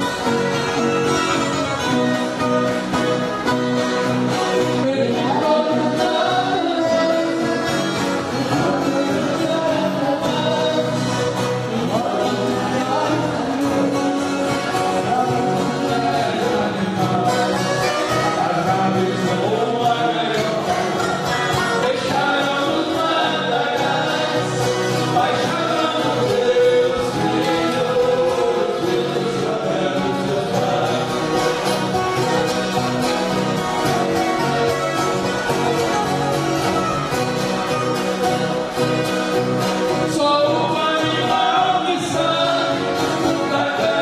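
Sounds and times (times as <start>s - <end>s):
people singing: 0.0s - 44.0s
violas and guitars strummed: 0.0s - 44.0s.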